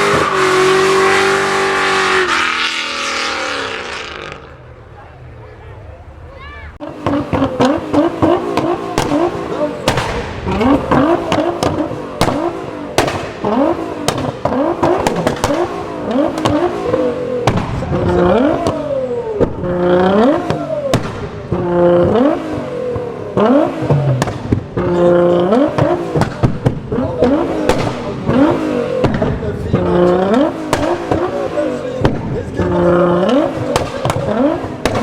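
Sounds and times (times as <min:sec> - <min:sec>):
car engine revving: 0:00.0 - 0:35.0
exhaust pops and bangs: 0:06.8 - 0:35.0.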